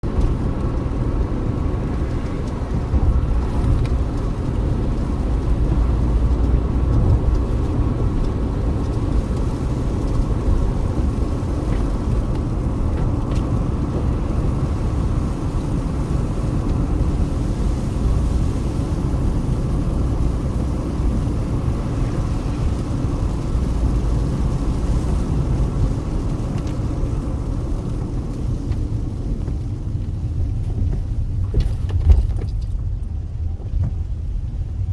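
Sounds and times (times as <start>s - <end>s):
car tyres and engine rumble: 0.0s - 34.9s.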